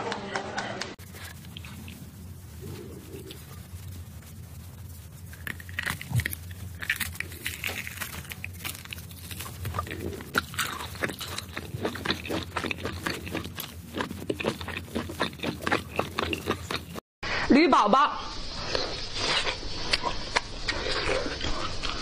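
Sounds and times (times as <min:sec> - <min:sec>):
crunchy chewing of food: 0:01.0 - 0:17.0, 0:18.6 - 0:22.0.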